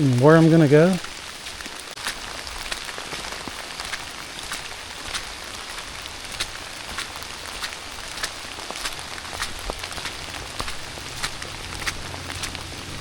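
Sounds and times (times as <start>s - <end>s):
raindrops ticking close by: 0.0s - 13.0s
steady rain hissing: 0.0s - 13.0s.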